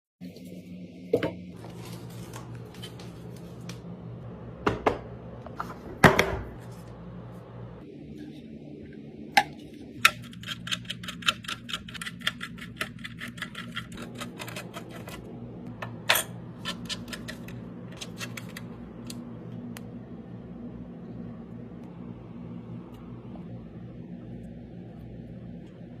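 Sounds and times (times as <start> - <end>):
steady low hum: 0.2 - 26.0.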